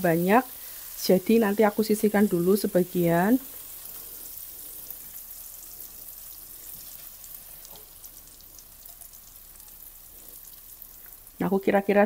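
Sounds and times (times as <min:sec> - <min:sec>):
paste sizzling in hot oil: 0:00.0 - 0:11.8.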